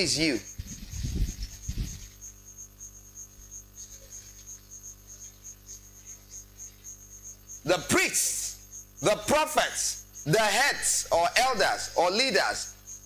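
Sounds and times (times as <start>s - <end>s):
insect chirping: 0.0s - 13.0s
low electrical hum: 0.0s - 13.0s.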